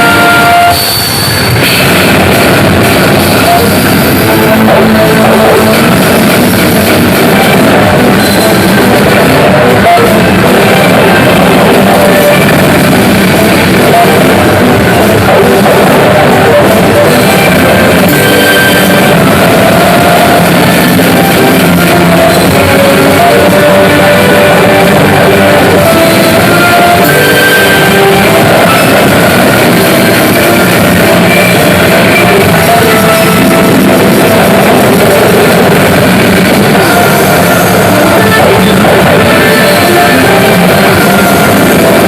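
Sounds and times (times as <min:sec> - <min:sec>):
rock music with guitar and drums: 0:00.0 - 0:42.0.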